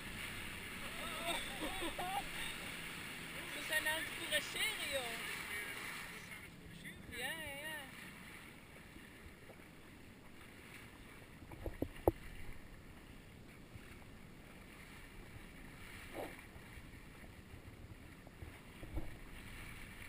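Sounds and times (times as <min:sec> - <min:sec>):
water washing around boat: 0:00.0 - 0:20.0
wind: 0:00.0 - 0:20.0.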